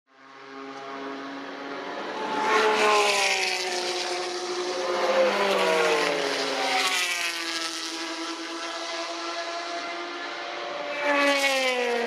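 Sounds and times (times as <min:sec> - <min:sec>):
race car engines passing: 0:00.2 - 0:12.0.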